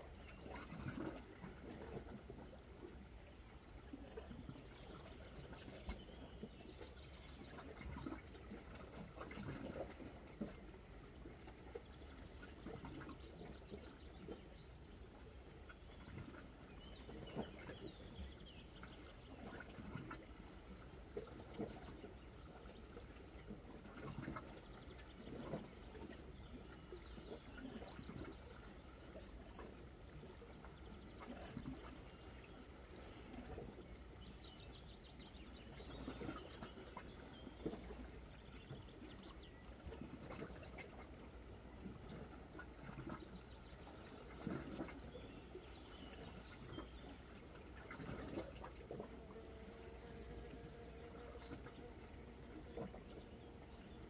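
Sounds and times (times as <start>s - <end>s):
small waves lapping on rocks: 0.0s - 54.0s.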